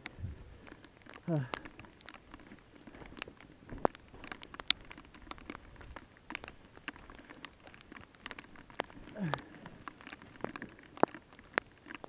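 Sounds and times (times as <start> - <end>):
mountain bike rattling: 0.0 - 12.0.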